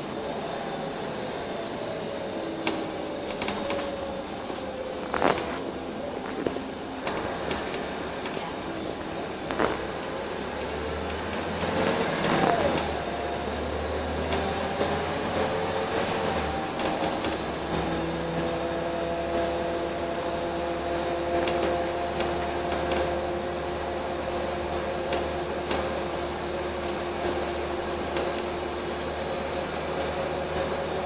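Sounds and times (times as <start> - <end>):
bus engine hum: 0.0 - 31.0
interior rattles and clicks: 2.6 - 4.1, 5.0 - 13.1, 14.0 - 18.8, 20.2 - 31.0.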